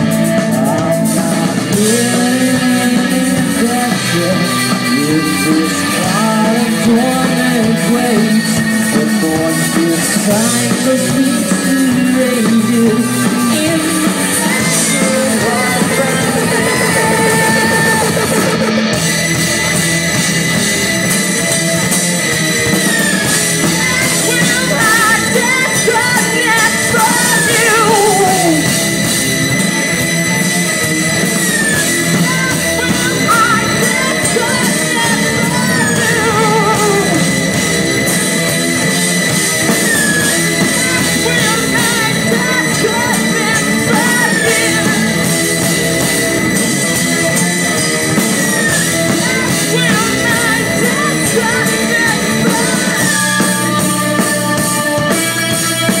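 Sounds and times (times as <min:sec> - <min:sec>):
live rock band playing: 0:00.0 - 0:56.0
sustained high tone: 0:00.2 - 0:56.0.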